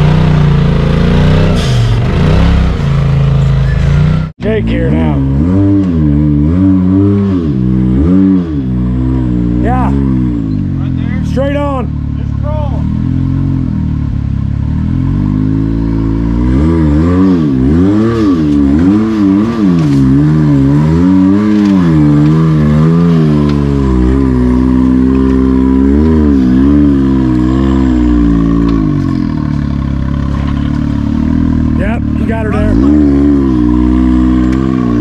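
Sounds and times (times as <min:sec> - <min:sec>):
utility vehicle engine revving: 0:00.0 - 0:35.0.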